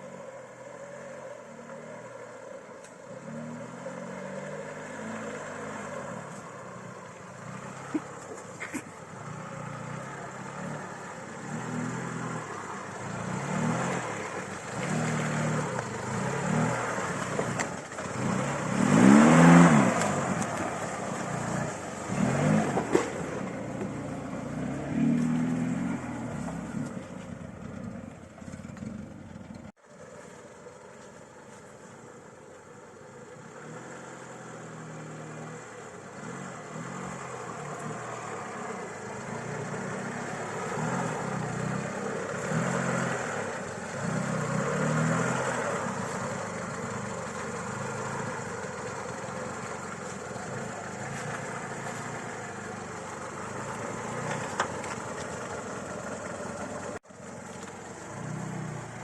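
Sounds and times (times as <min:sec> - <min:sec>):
car engine revving: 0:00.0 - 0:29.8, 0:33.1 - 0:59.0.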